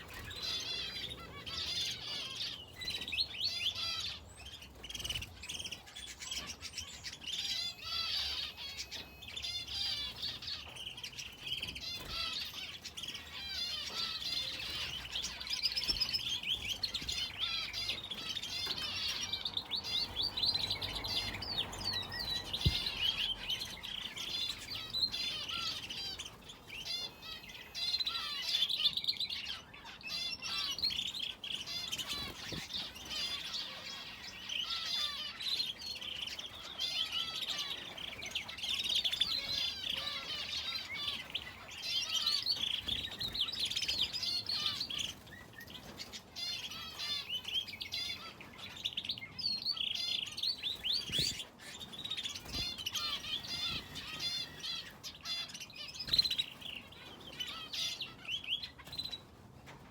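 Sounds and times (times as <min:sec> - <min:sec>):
finches and canary chirping: 0:00.0 - 0:59.9.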